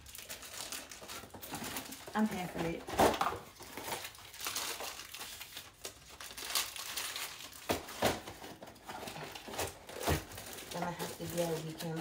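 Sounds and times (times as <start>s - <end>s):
cardboard packaging crinkling: 0.0s - 12.0s.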